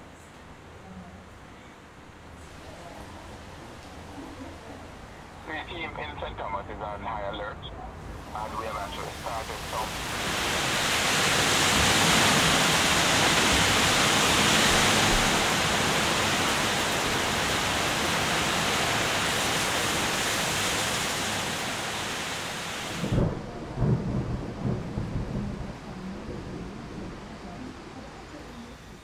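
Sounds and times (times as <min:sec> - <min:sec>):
heavy rain pouring with wind: 0:04.7 - 0:29.0.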